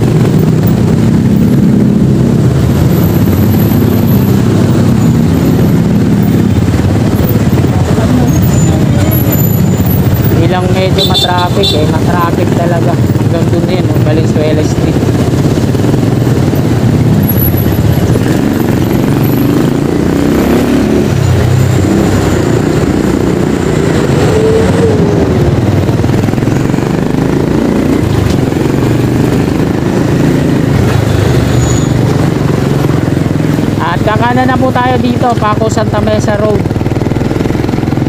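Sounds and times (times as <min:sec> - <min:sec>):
motorcycle engine running: 0:00.0 - 0:38.0
traffic engines: 0:00.0 - 0:38.0.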